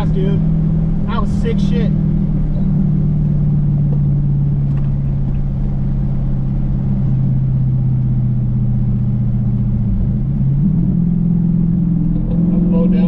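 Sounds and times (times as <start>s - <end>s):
car engine and exhaust cruising: 0.0s - 13.0s.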